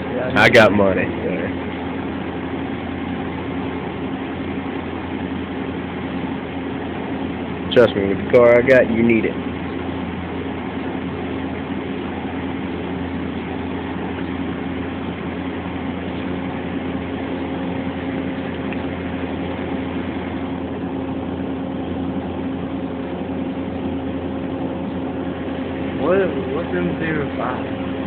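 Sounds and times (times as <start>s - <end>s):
machine shop machinery humming: 0.0s - 28.0s.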